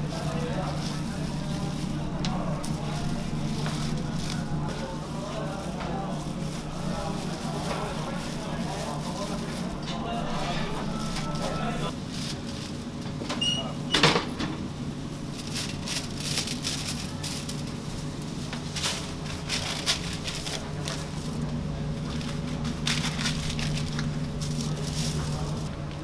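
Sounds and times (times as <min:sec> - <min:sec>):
paper wrappers crinkling: 0:00.0 - 0:13.7, 0:15.1 - 0:26.0
kitchen equipment hum: 0:00.0 - 0:26.0.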